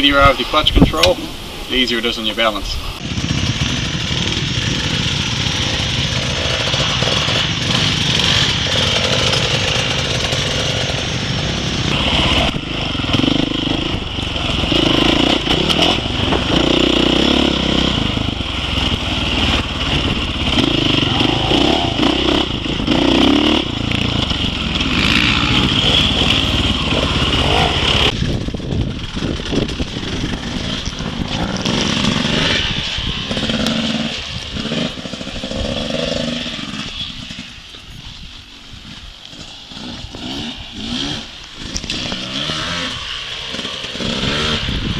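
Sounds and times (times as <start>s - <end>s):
dirt bike engine revving: 2.9s - 38.0s, 38.8s - 44.9s.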